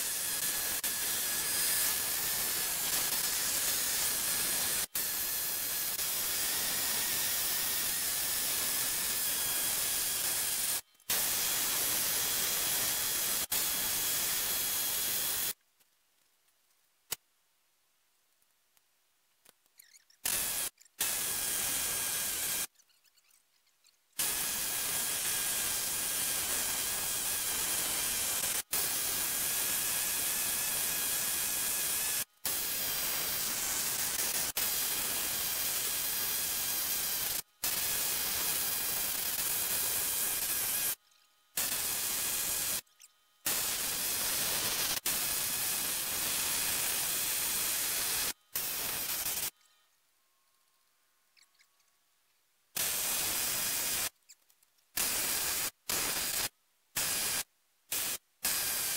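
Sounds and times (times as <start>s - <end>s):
pneumatic needle scaler chattering: 0.0s - 15.6s, 19.8s - 49.7s, 52.8s - 58.9s.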